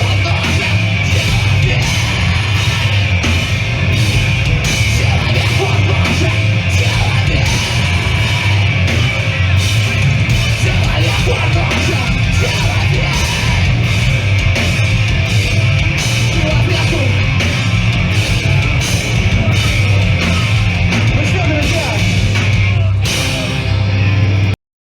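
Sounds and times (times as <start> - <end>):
drum beat with crashing cymbals: 0.0 - 23.8
distorted guitars: 0.0 - 24.6
heavy bass: 0.0 - 24.6.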